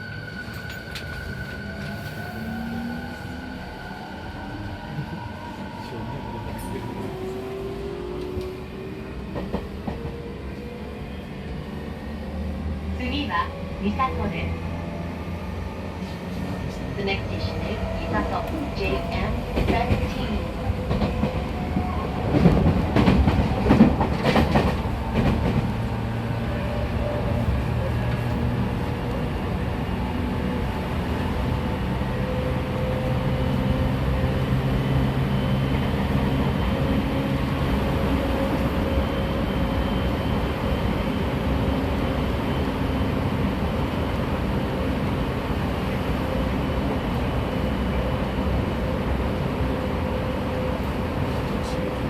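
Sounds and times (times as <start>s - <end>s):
train running noise: 4.8s - 52.0s.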